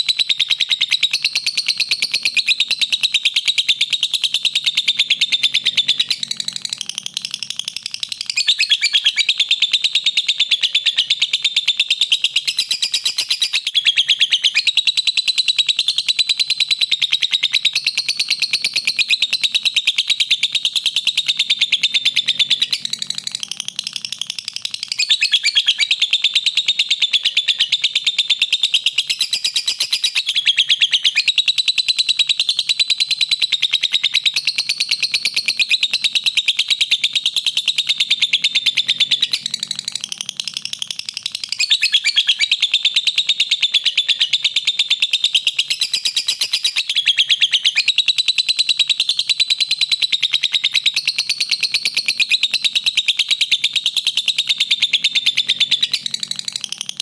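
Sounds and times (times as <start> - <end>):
lovebird chattering trill: 0.0 - 57.0.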